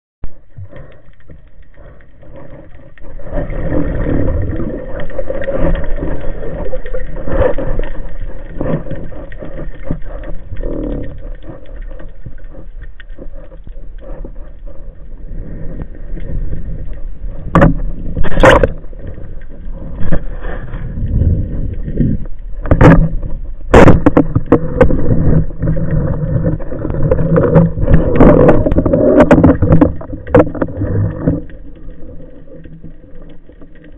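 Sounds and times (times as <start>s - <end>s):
water rushing underwater: 0.2s - 33.9s
diver swimming movement: 0.4s - 33.9s.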